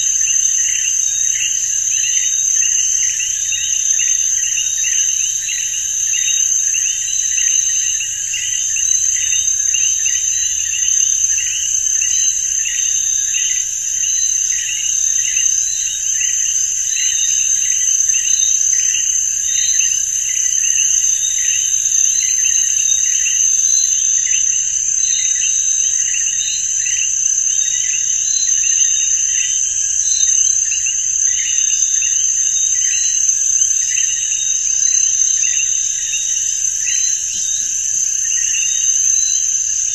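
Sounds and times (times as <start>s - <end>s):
insect chirps: 0.0s - 39.9s
insects buzzing drone: 0.0s - 39.9s.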